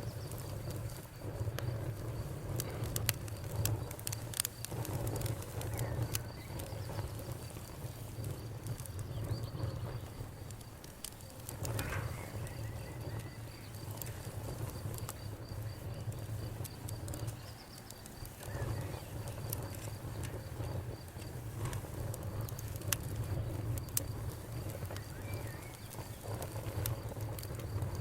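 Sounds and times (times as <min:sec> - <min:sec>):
campfire crackling: 0:00.0 - 0:28.0
insects trilling: 0:00.0 - 0:28.0.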